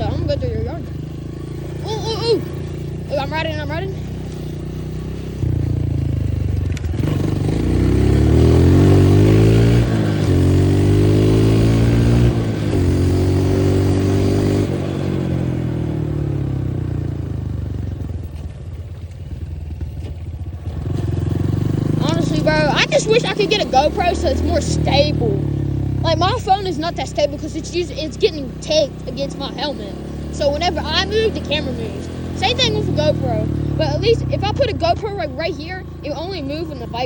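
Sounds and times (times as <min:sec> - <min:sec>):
dirt bike engine accelerating: 0:00.0 - 0:37.0.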